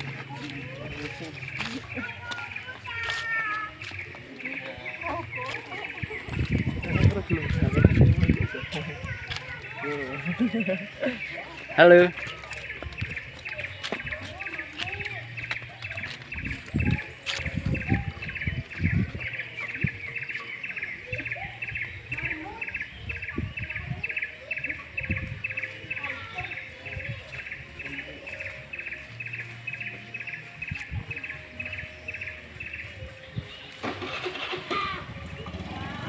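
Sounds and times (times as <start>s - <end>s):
bird chirping: 0.0s - 34.5s.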